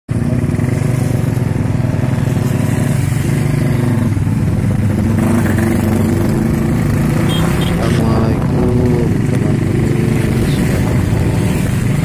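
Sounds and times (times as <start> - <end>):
motorcycle engine running: 0.1 - 12.0
wind and road noise: 0.1 - 12.0.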